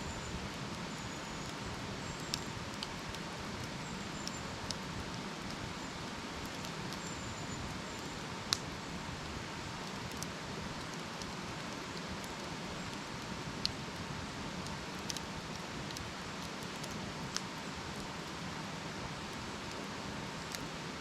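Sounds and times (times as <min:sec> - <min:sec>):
campfire crackling: 0:00.1 - 0:21.0
fire popping: 0:00.2 - 0:08.9, 0:09.8 - 0:18.4.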